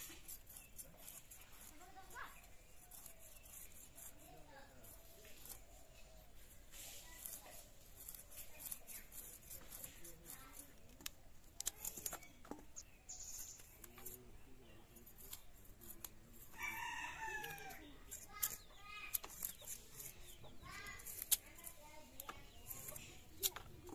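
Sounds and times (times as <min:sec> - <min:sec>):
fish scales scraping on blade: 0:00.0 - 0:14.2, 0:14.8 - 0:23.9
knife cutting bean pods: 0:00.0 - 0:23.9.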